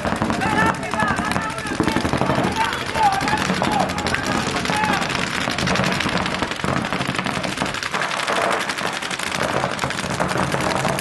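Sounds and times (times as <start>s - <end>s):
paintball markers firing rapidly: 0.0s - 11.0s.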